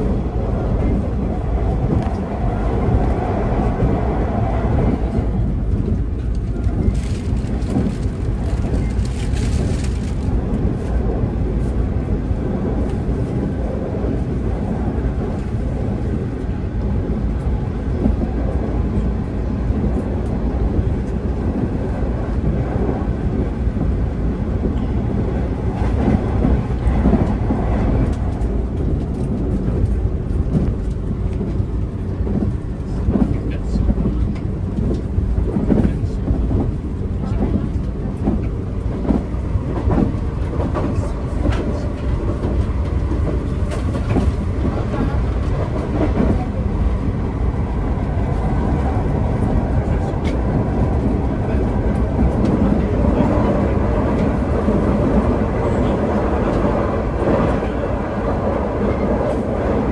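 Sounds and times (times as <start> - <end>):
train rumble inside passenger car: 0.0 - 59.9.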